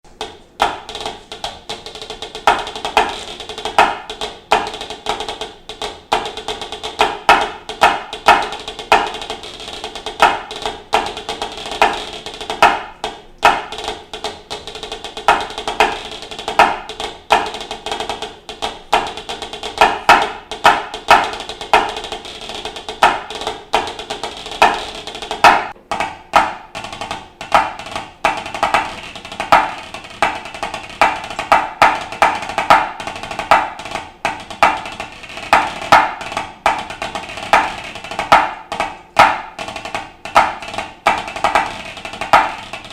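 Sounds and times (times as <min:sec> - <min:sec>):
drumsticks on practice pad: 0:00.1 - 0:42.9.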